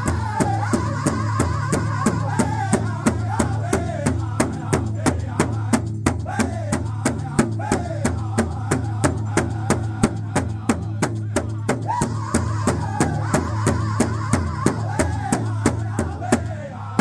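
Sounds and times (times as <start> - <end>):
group singing: 0.0 - 17.0
large drum beating: 0.0 - 17.0.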